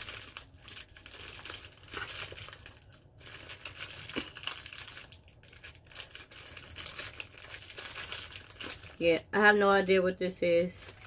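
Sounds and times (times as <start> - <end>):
plastic packaging crinkling: 0.0 - 9.7, 10.6 - 11.0.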